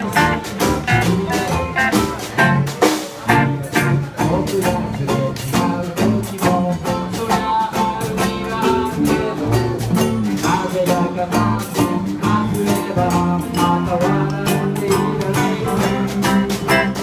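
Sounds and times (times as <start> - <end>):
acoustic band playing live: 0.0 - 17.0.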